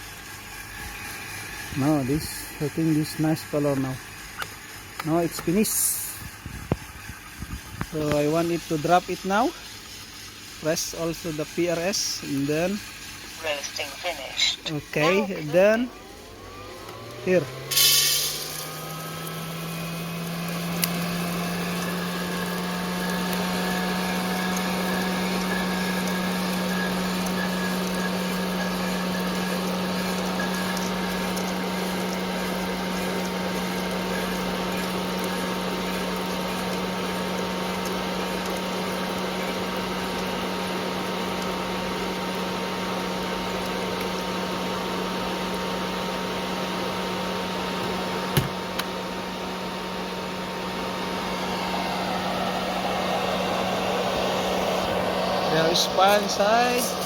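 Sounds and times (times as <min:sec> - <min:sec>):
roaster hum with air rush: 0:00.0 - 0:57.0.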